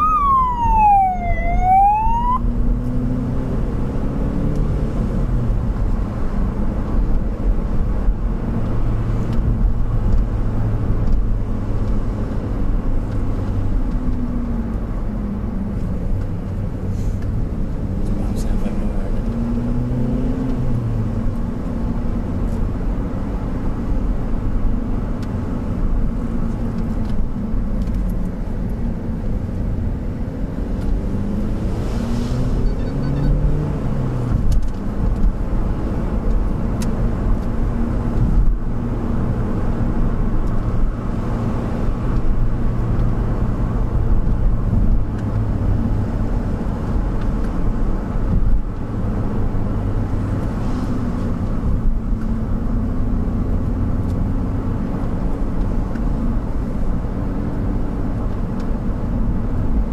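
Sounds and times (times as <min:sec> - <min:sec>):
road noise inside a car: 0:00.0 - 0:59.9
vehicle engine: 0:00.0 - 0:59.9.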